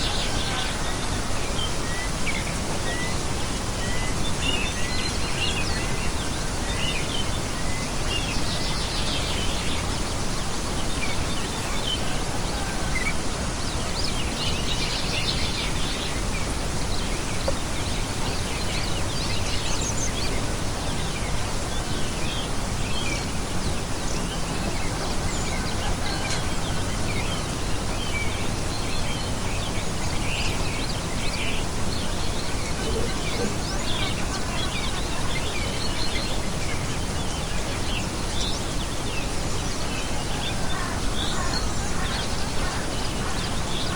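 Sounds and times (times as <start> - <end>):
outdoor background hiss: 0.0 - 43.9
songbirds chirping: 0.0 - 43.9.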